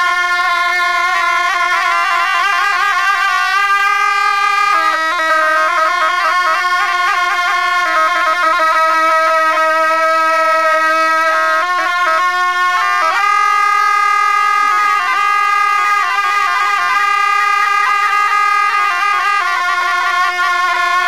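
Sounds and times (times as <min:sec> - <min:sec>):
double-reed shawms playing melody: 0:00.0 - 0:21.0.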